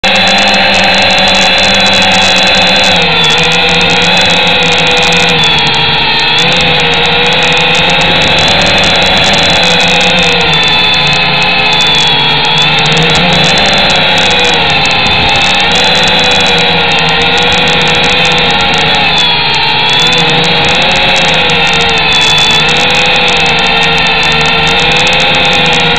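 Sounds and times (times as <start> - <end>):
drone propeller motors whining: 0.0 - 25.9.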